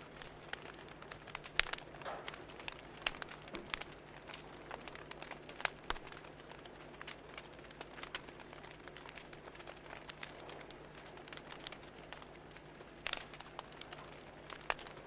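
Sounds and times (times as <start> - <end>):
soft steady hiss: 0.0 - 15.0
wood fire crackling: 0.0 - 15.0.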